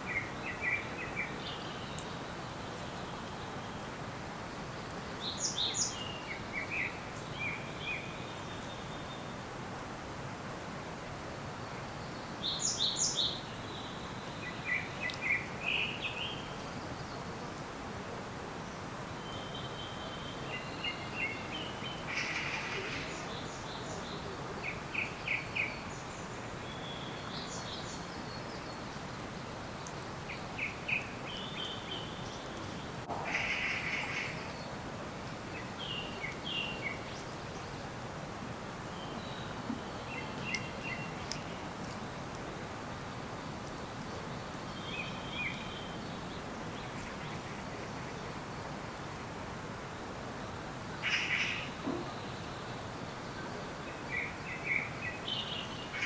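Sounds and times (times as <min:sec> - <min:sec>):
outdoor background hiss: 0:00.0 - 0:56.0
songbirds chirping: 0:00.0 - 0:56.0.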